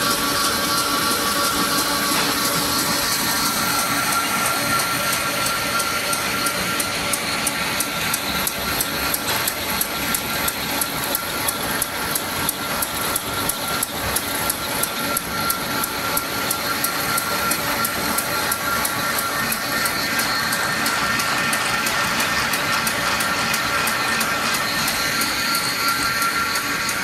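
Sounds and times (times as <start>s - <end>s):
machine whine: 0.0s - 27.0s
regular sharp clacks of cutter: 5.0s - 27.0s.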